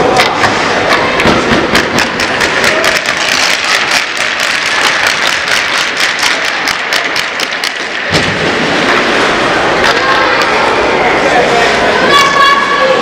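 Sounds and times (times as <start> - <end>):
sticks puck and skates clicking: 0.0 - 10.6
crowd noise: 0.0 - 13.0.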